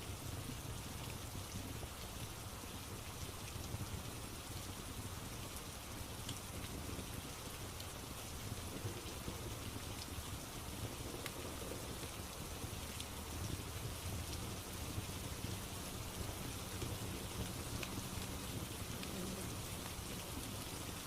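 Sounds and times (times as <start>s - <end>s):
steady rain: 0.0s - 21.0s
wood fire crackling: 0.2s - 21.0s.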